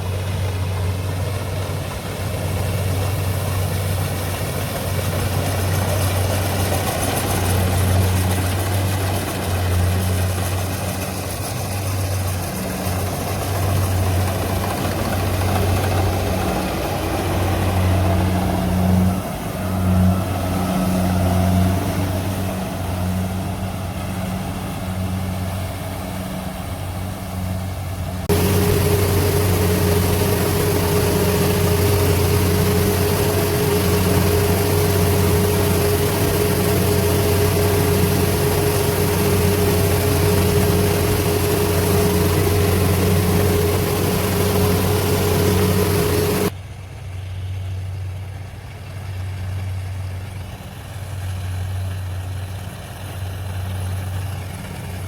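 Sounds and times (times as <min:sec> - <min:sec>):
diesel engine humming: 0:00.0 - 0:46.6
engine whine: 0:00.0 - 0:46.6.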